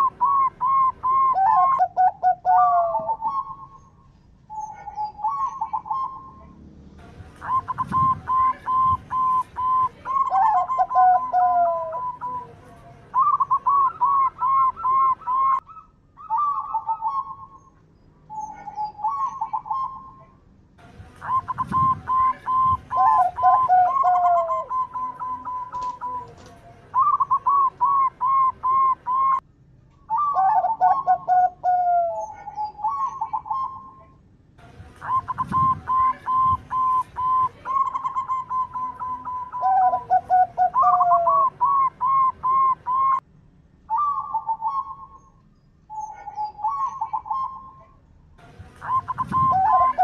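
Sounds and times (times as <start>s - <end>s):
dove cooing: 0.0s - 3.9s, 4.5s - 6.5s, 7.4s - 12.6s, 13.2s - 17.6s, 18.3s - 20.3s, 21.2s - 29.4s, 30.1s - 34.2s, 35.0s - 43.2s, 43.9s - 45.2s, 45.9s - 48.0s, 48.8s - 50.0s.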